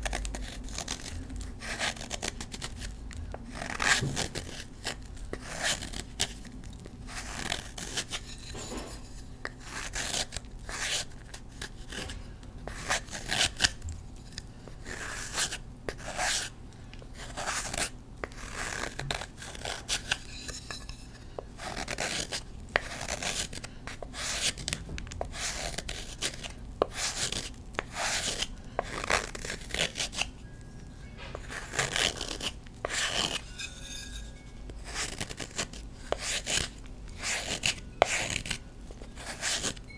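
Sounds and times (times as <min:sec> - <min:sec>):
knife scraping chalk block: 0:03.5 - 0:06.2, 0:07.1 - 0:13.8, 0:14.8 - 0:16.5, 0:17.2 - 0:24.7, 0:25.3 - 0:30.3, 0:31.3 - 0:39.8.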